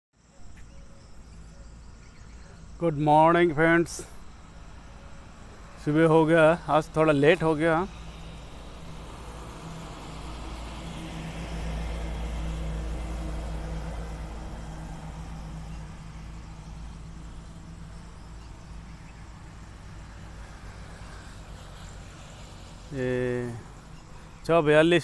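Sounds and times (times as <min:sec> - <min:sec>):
passing motor vehicle rumble: 0:00.2 - 0:25.0.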